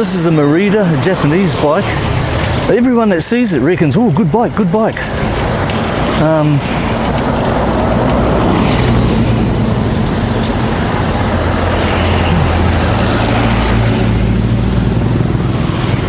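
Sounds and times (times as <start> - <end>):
motorbike engines: 0.0 - 16.0.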